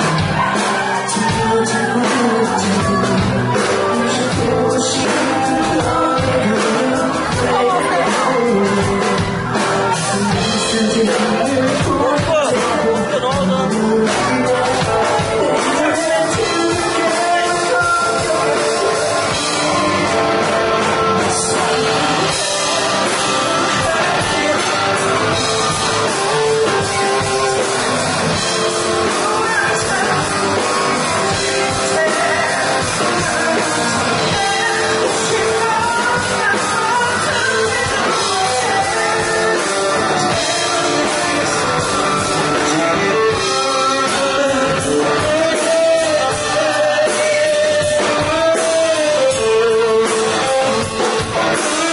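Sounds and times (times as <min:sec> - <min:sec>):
live rock band: 0:00.0 - 0:51.9
men singing into microphones: 0:00.0 - 0:51.9.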